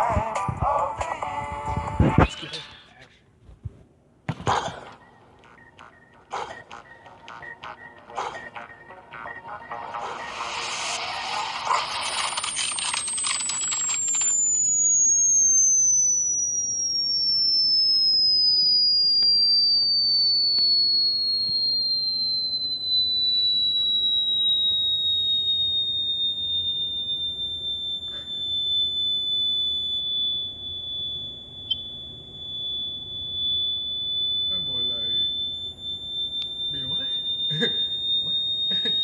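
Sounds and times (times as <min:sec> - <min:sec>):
high gliding sine tone: 0:00.0 - 0:02.9, 0:05.0 - 0:39.0.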